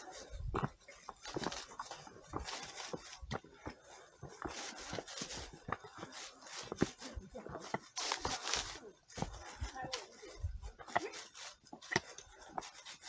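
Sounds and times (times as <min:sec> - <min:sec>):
footsteps on dirt trail: 0:00.0 - 0:13.0.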